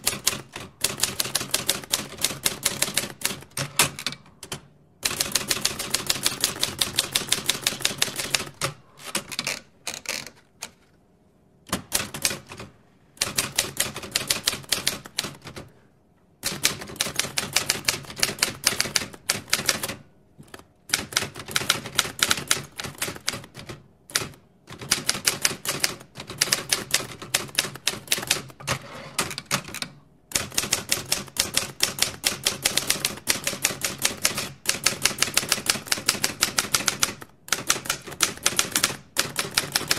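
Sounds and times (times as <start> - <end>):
mechanical typewriter typing: 0.0 - 10.8, 11.7 - 15.7, 16.4 - 39.9.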